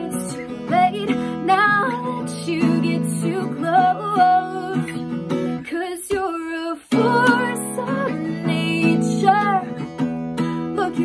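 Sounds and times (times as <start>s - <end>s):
acoustic guitar strumming: 0.0s - 11.0s
woman singing: 0.0s - 11.0s.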